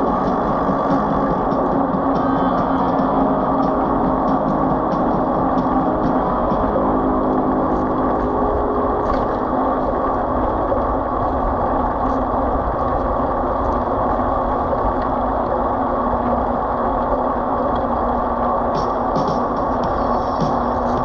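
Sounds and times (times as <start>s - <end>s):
vehicle engine rumble and hiss: 0.0s - 21.0s.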